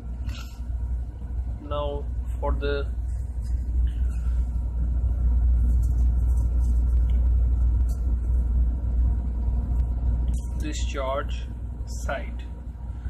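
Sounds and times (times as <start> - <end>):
machinery rumble: 0.0 - 13.0.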